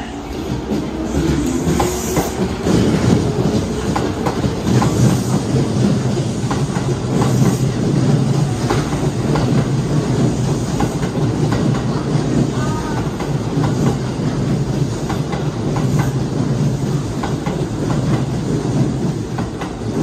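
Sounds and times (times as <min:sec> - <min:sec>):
train running gear rumbling: 0:00.0 - 0:20.0
train wheels clacking: 0:00.0 - 0:20.0.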